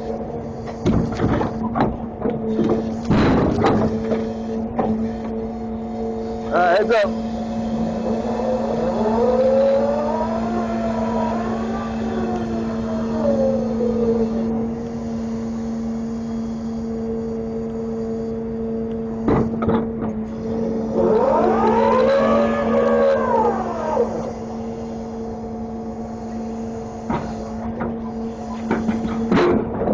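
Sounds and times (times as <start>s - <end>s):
truck engine and hydraulics whining: 0.0s - 29.9s.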